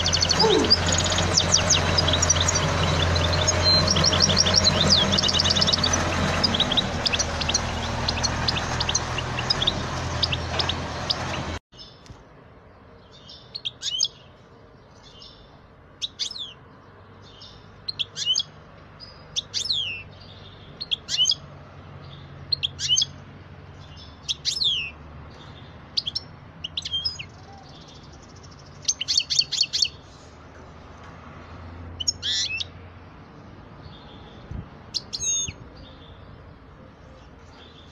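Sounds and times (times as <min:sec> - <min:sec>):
songbird chirping: 0:00.0 - 0:37.9.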